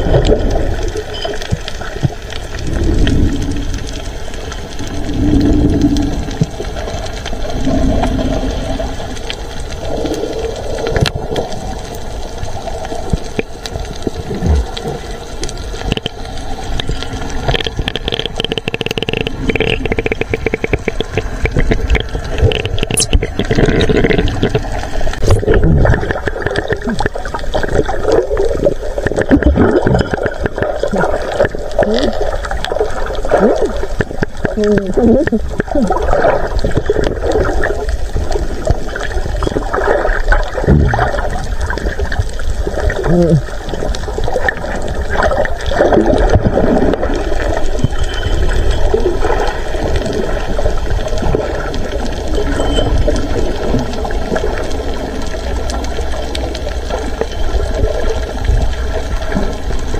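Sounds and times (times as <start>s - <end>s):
small clicks and crackles: 0.0s - 59.9s
water moving and bubbling underwater: 0.0s - 59.9s.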